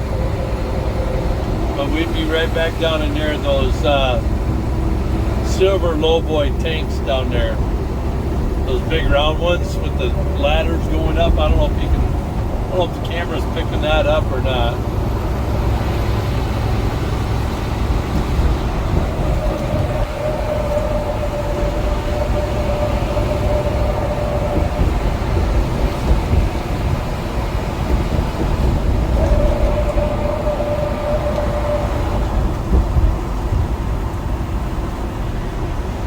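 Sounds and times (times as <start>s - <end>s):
high whine: 0.0s - 34.9s
truck engine and road rumble: 0.0s - 36.0s.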